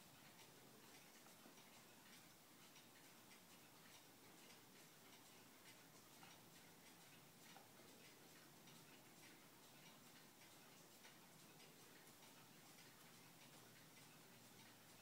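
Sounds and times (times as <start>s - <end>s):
faint light ticks: 0.0s - 15.0s.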